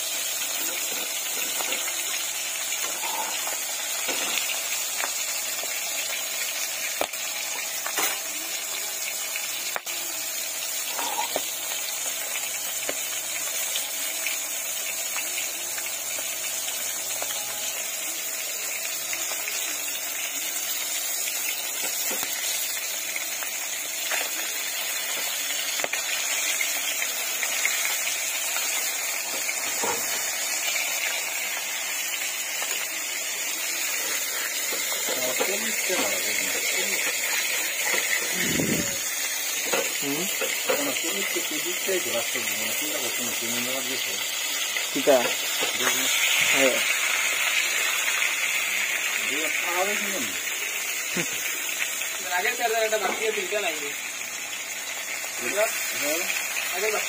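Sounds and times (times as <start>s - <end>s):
fish frying in hot oil: 0.0s - 57.0s.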